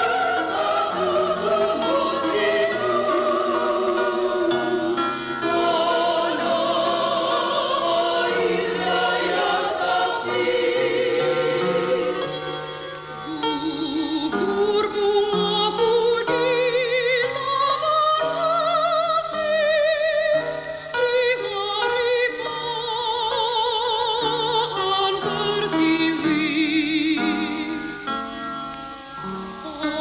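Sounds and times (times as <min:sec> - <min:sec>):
slow music with vibrato melody: 0:00.0 - 0:30.0.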